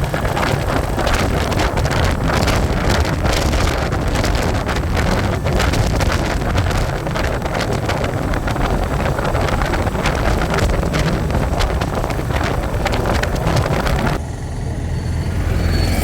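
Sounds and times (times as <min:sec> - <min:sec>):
wind buffeting microphone: 0:00.0 - 0:14.2
motorcycle engine running: 0:00.0 - 0:14.9.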